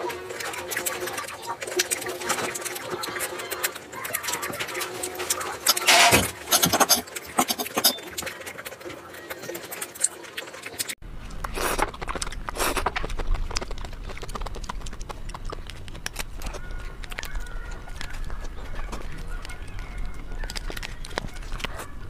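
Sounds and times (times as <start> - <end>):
chewing with wet mouth clicks: 0.1 - 5.8, 6.8 - 22.0.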